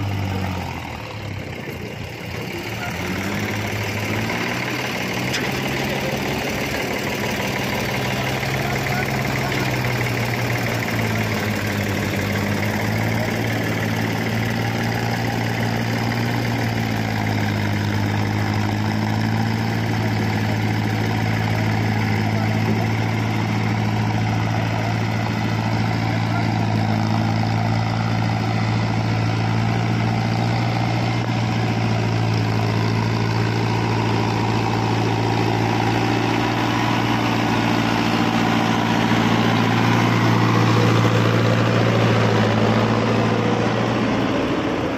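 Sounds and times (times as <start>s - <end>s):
backhoe loader diesel engine: 0.0s - 44.9s
tractor diesel engine running: 0.0s - 44.9s.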